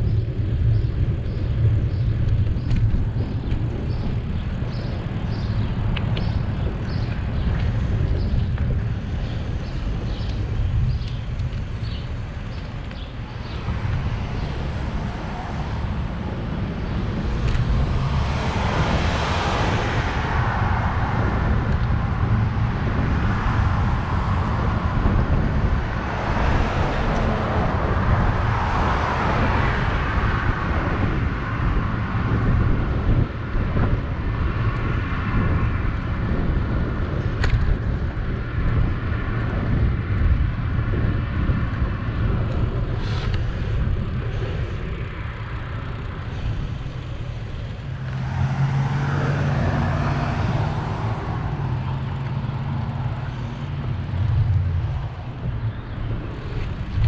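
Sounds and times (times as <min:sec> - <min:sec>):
car traffic passing: 0:00.0 - 0:57.0
wind and road noise rumble: 0:00.0 - 0:57.0.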